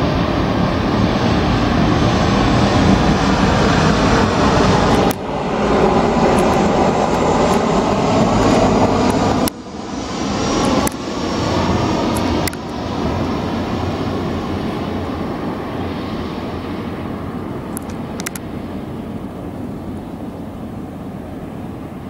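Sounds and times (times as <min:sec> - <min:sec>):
airliner engine roar: 0:00.0 - 0:22.0.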